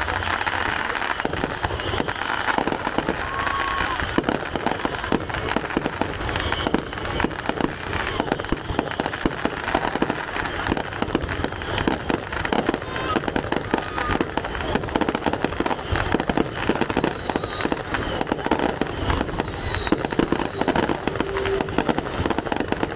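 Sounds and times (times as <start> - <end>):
firework bangs and crackling pops: 0.0 - 22.9.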